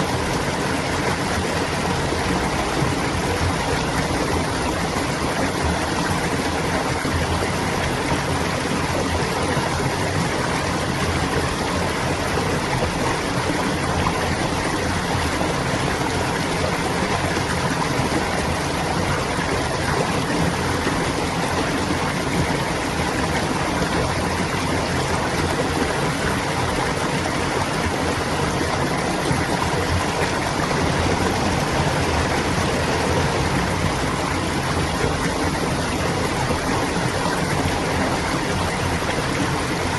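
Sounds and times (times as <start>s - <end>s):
water babbling in a stream: 0.0s - 39.9s.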